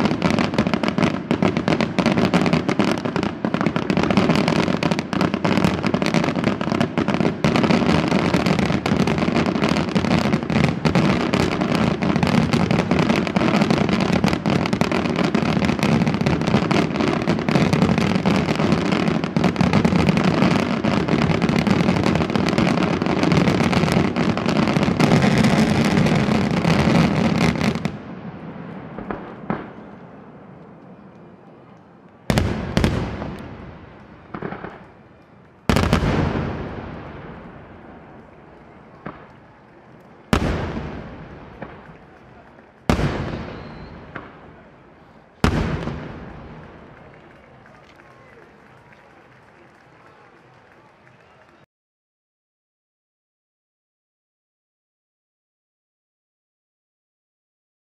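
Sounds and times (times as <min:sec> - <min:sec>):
fireworks bursting and crackling: 0:00.0 - 0:51.7.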